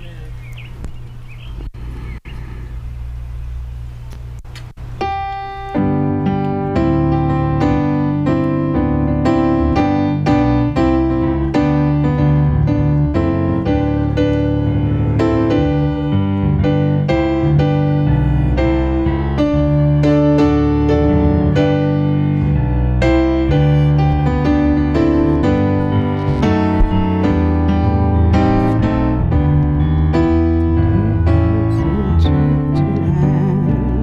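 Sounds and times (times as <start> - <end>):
electric piano chords: 4.8 - 34.0.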